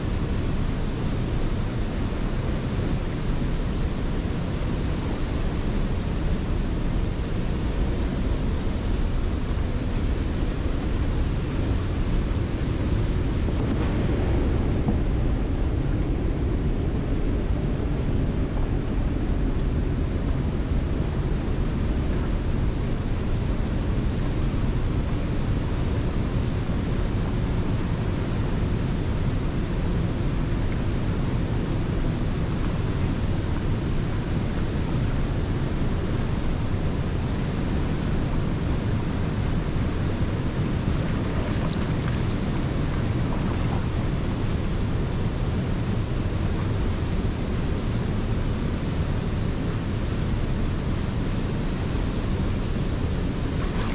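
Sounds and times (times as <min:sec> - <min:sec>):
churning whitewater: 0:00.0 - 0:15.9, 0:18.8 - 0:53.9.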